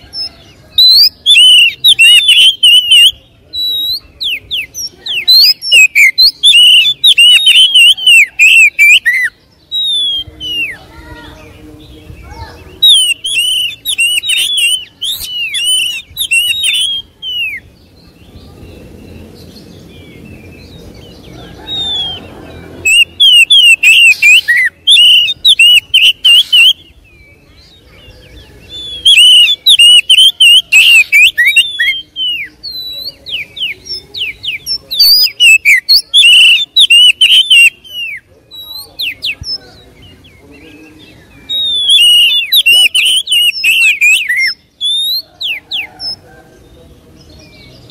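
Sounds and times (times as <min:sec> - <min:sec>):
bird singing whistled phrases: 0:00.0 - 0:11.5, 0:12.3 - 0:17.7, 0:21.4 - 0:46.2.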